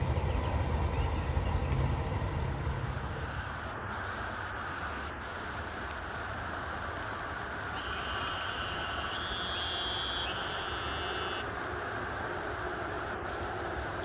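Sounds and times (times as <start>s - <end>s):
rain falling on water: 1.8s - 14.0s.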